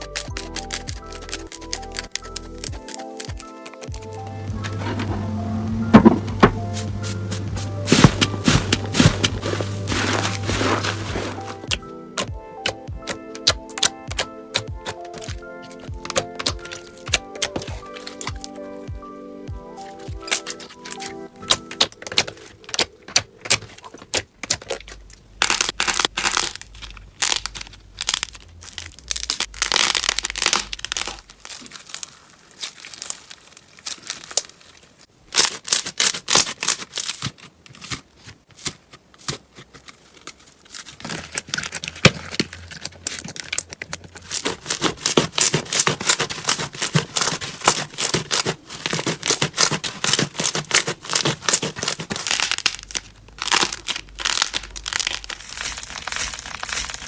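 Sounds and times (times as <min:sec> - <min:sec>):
slime crackling and popping: 0:00.0 - 0:04.4, 0:06.0 - 0:38.0, 0:38.6 - 0:57.0.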